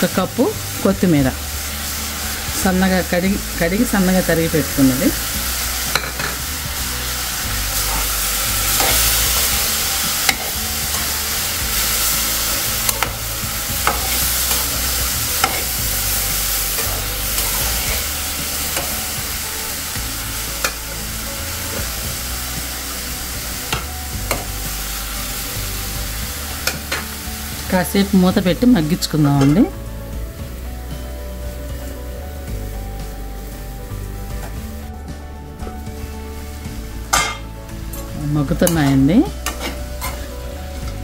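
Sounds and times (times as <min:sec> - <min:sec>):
vegetables sizzling in hot oil: 0:00.0 - 0:41.0.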